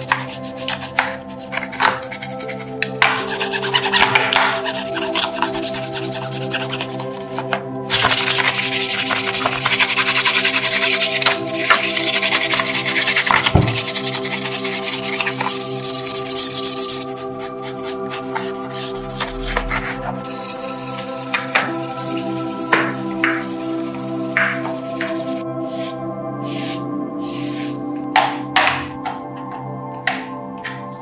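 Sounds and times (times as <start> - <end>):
brush scrubbing a grille: 0.0 - 7.3, 7.9 - 27.8.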